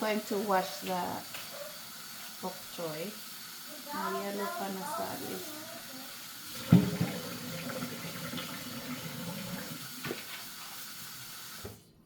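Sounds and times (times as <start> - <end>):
tap water running into sink: 0.0 - 11.9.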